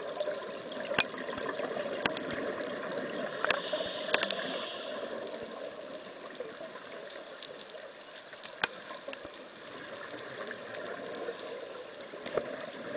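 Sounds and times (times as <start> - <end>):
steady underwater hiss: 0.0 - 12.9
faint clicks: 0.2 - 12.9.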